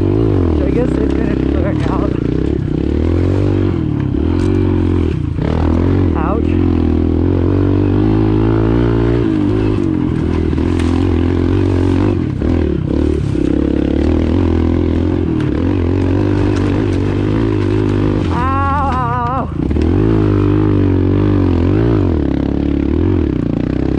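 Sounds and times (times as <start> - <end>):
small motorbike engine running: 0.0 - 23.9.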